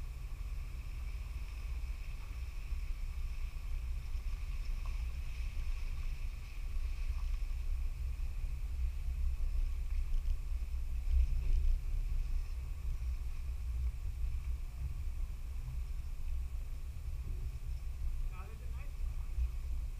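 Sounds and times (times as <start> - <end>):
faint steady whine: 0.0 - 19.9
off-road vehicle rumble: 0.0 - 19.9.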